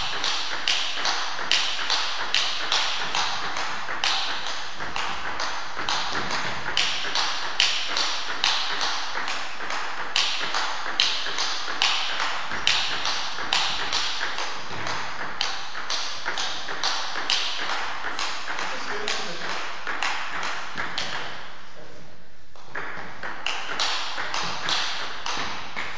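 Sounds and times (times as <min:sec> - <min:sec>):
table tennis ball clicking: 0:00.0 - 0:21.4, 0:22.6 - 0:25.9.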